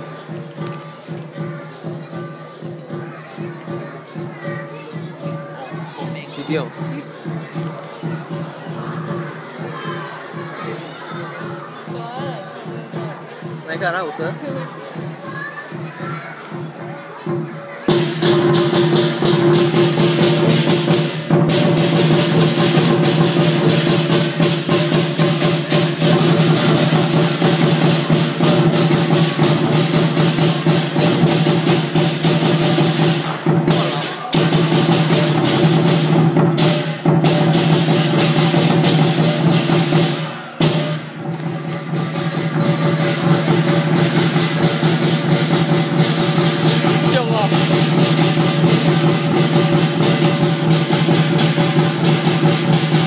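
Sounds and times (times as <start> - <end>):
big drum beating fast: 5.2 - 53.0.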